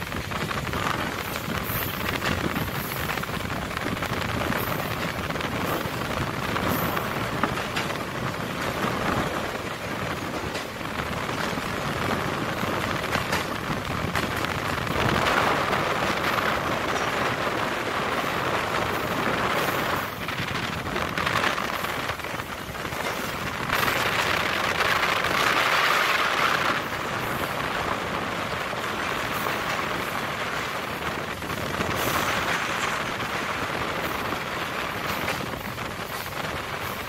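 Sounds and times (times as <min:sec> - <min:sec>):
train wheels rushing on track: 0:00.0 - 0:37.0.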